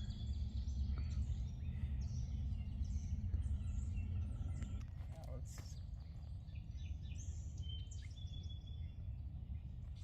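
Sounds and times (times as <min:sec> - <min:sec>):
steady low rumble: 0:00.0 - 0:10.0
wild birds chirping: 0:00.0 - 0:10.0.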